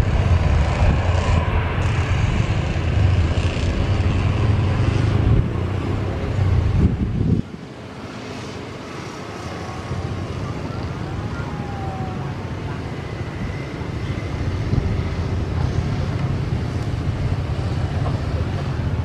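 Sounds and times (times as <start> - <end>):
jet engines rumbling: 0.0 - 19.0
road traffic passing: 0.0 - 19.0.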